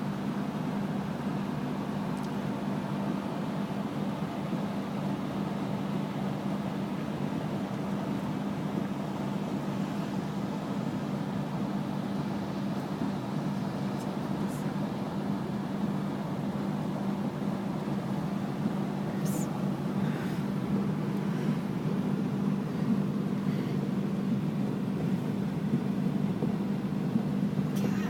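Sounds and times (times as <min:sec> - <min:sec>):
constant low hum: 0:00.0 - 0:28.0
road and engine noise: 0:00.0 - 0:28.0.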